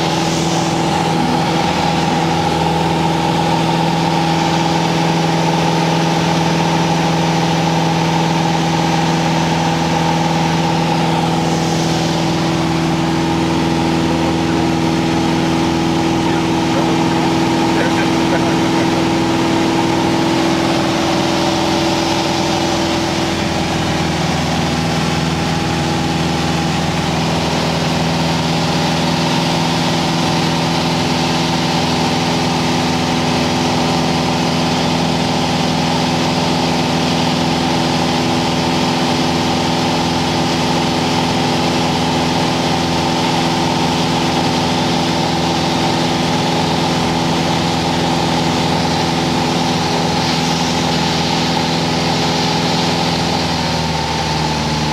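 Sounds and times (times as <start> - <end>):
light aircraft engine drone: 0.0 - 54.9.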